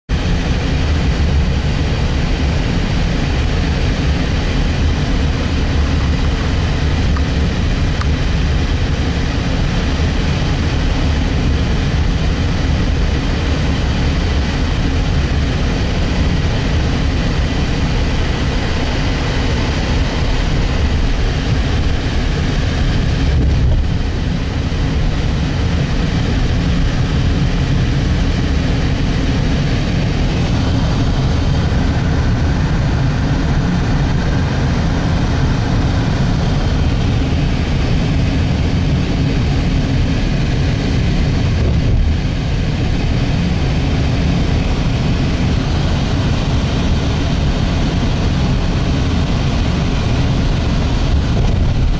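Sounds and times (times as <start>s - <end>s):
car engine and tyre rumble: 0.1s - 51.9s.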